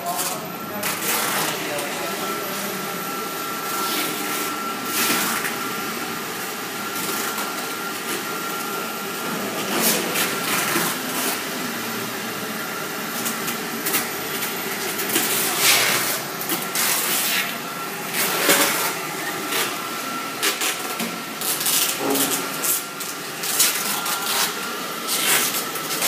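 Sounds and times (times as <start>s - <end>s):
packaging machine whirring: 0.0s - 26.0s.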